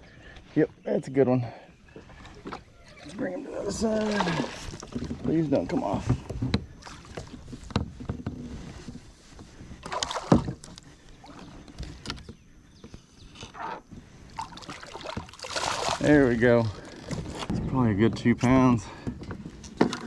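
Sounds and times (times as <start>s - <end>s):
knocks and bumps in kayak: 1.9s - 20.0s.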